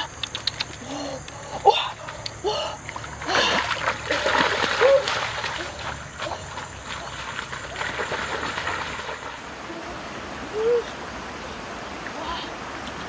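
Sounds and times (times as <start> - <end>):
stream water running over stones: 0.0 - 13.0
wading splashes: 1.4 - 13.0.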